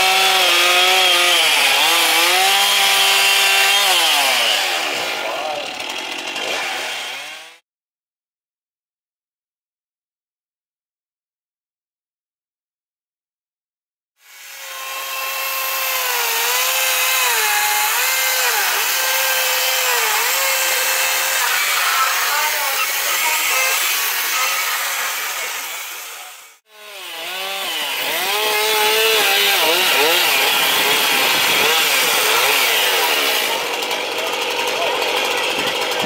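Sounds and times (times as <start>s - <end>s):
chainsaw cutting wood: 0.0s - 7.6s, 14.2s - 36.0s.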